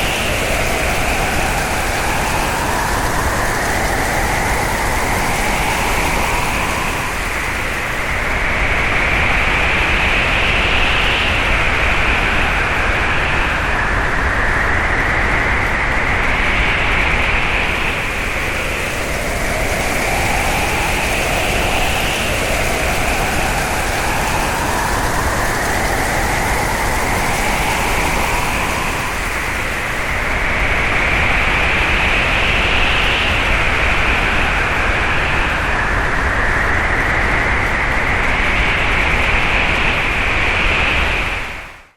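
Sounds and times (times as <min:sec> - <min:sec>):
hurricane wind howling: 0:00.0 - 0:41.9.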